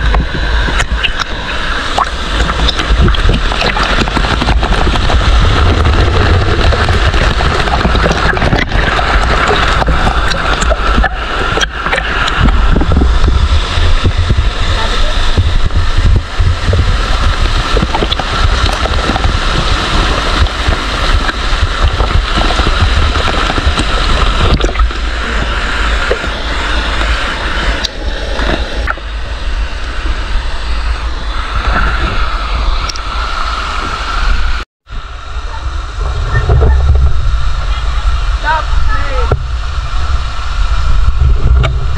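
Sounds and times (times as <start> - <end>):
waterfall rushing and splashing: 0.0 - 41.9.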